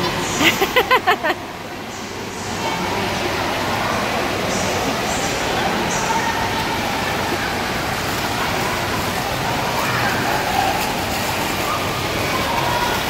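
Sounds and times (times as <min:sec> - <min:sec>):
churning water in wave pool: 0:00.0 - 0:13.0
faint voices: 0:00.0 - 0:13.0.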